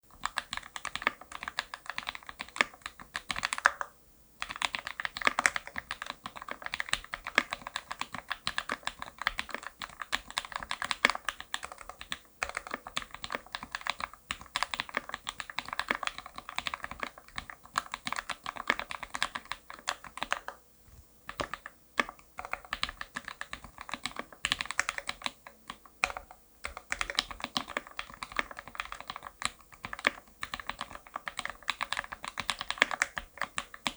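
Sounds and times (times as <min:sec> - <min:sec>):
mechanical keyboard typing: 0:00.1 - 0:20.6, 0:21.3 - 0:33.9.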